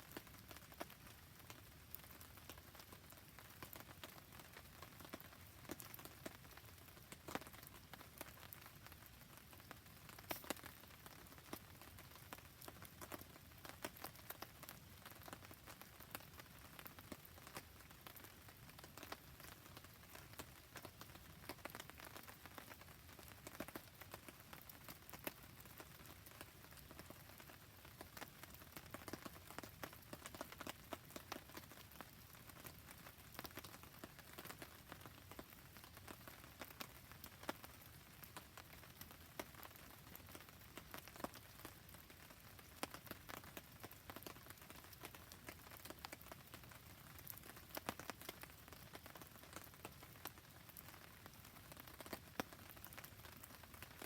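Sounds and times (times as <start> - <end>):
rain falling: 0.0 - 54.0
campfire crackling: 0.1 - 54.0.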